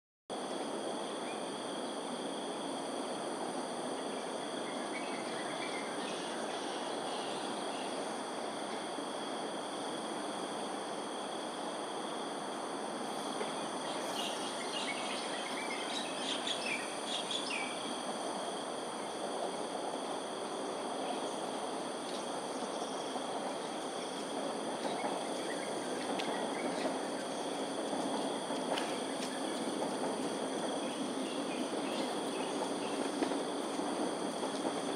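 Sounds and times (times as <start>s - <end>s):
environmental background noise: 0.3s - 34.9s
insects chirping: 0.4s - 34.9s.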